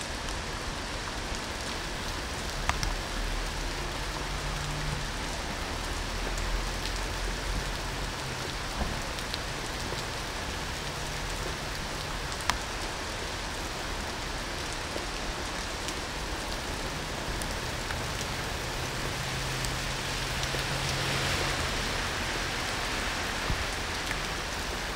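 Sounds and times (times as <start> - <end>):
heavy rain on street: 0.0 - 24.9
rain drip ticks: 0.1 - 24.9.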